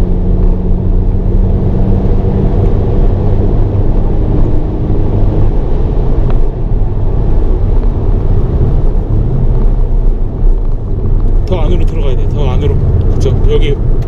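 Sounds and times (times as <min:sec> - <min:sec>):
car engine running hard: 0:00.0 - 0:14.0
road noise: 0:00.0 - 0:14.0.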